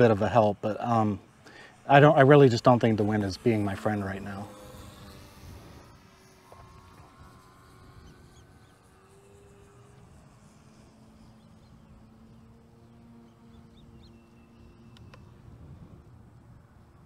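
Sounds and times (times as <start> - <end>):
distant electric motor whine: 0.0 - 17.0
wind rumble on microphone: 2.2 - 17.0.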